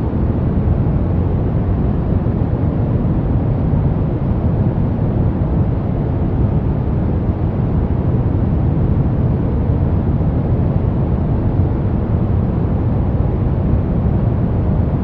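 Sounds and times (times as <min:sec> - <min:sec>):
brown noise rumbling hiss: 0:00.0 - 0:15.0.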